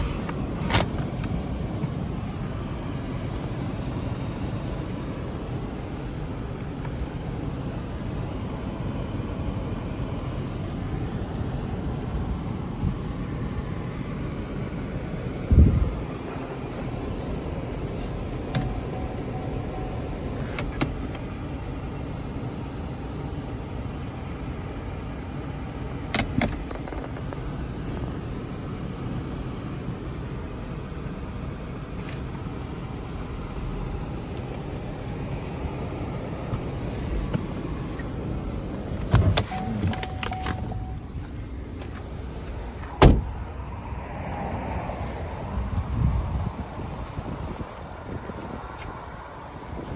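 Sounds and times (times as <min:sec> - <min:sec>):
engine rumbling: 0:00.0 - 0:49.9.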